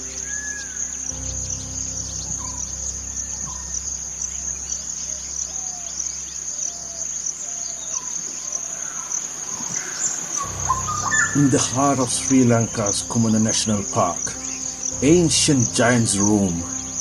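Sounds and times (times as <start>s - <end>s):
low hum: 0.0s - 7.8s, 10.4s - 17.0s
bird chirping: 0.0s - 17.0s
insect chorus: 0.0s - 17.0s.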